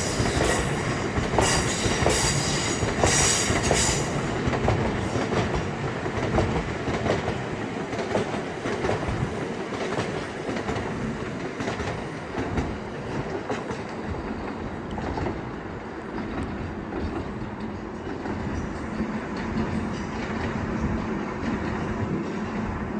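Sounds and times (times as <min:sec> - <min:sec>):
train wheels rumbling on rails: 0:00.0 - 0:22.9
wheels clicking over rail joints: 0:00.0 - 0:22.9.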